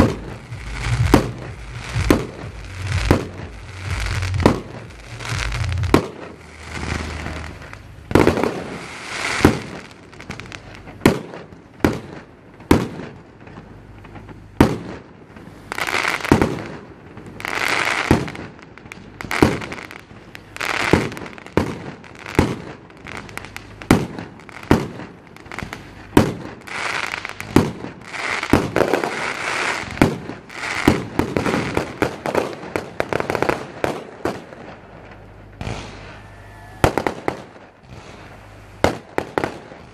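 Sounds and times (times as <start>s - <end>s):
firework crackle: 0.0s - 39.9s.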